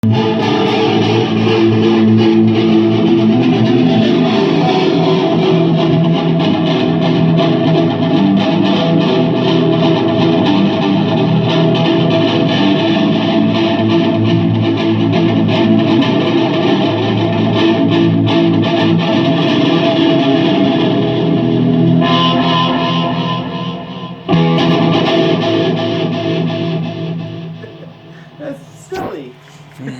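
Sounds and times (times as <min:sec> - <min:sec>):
guitar playing sustained notes: 0:00.0 - 0:29.3.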